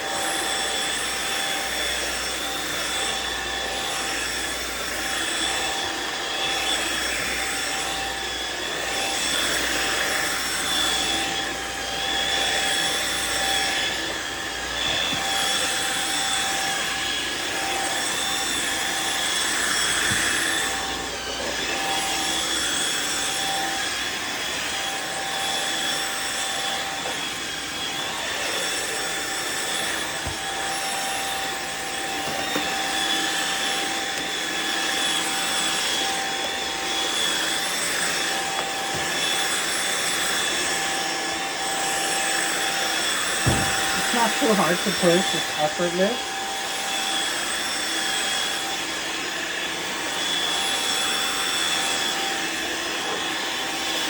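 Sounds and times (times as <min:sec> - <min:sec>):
floor washer motor whine: 0:00.0 - 0:54.0.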